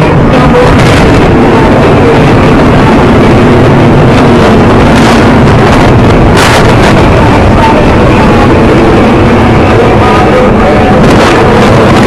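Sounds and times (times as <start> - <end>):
loud jet engine roar: 0.0 - 12.0.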